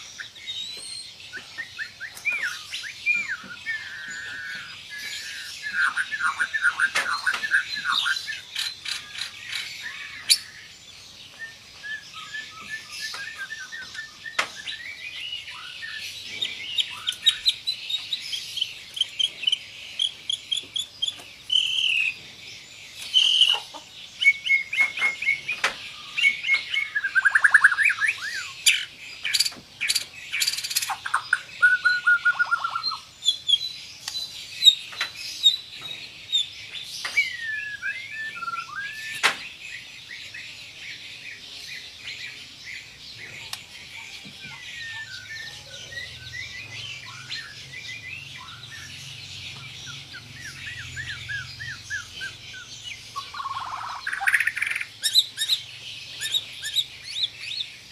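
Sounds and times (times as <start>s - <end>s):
songbird trilling and whistling: 0.0s - 22.3s, 22.9s - 57.9s.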